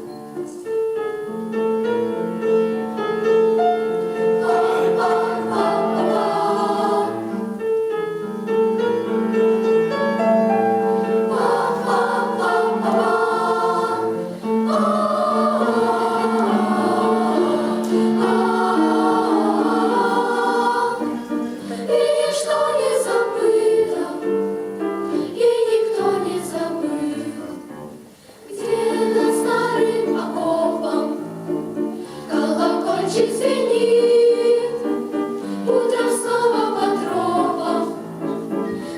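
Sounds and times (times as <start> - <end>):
choir singing in harmony: 1.4 - 38.9.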